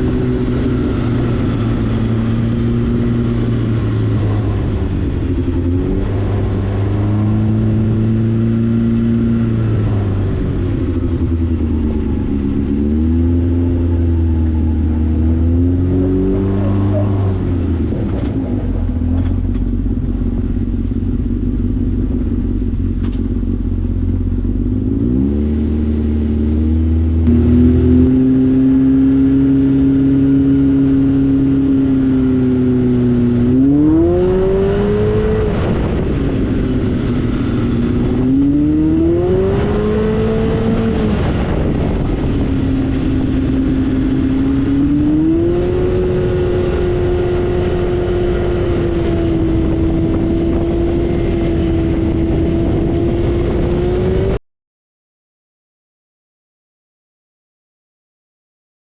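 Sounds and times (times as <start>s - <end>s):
vehicle engine accelerating: 0.0s - 54.4s.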